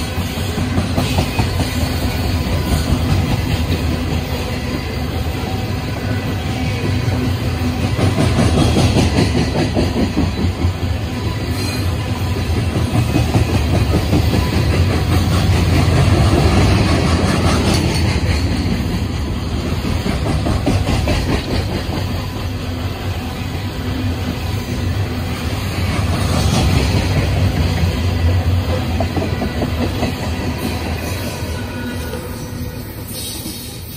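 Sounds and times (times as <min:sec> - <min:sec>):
train cars rumbling past: 0:00.0 - 0:33.9.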